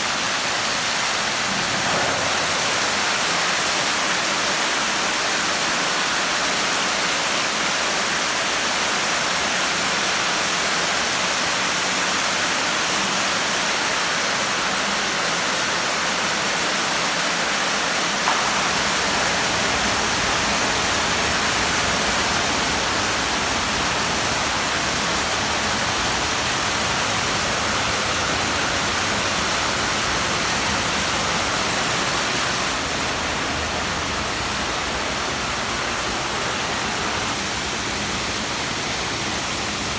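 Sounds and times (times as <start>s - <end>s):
water pouring and splashing into pool: 0.0s - 39.9s.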